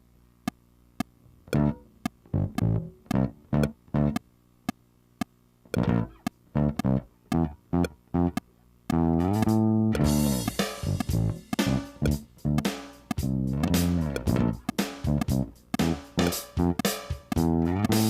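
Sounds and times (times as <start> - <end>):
plucked bass guitar notes: 1.3 - 4.2, 5.7 - 18.0.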